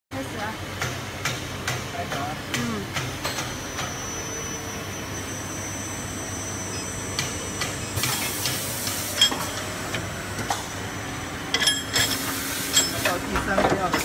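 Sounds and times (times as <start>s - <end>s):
machine humming: 0.1s - 14.0s.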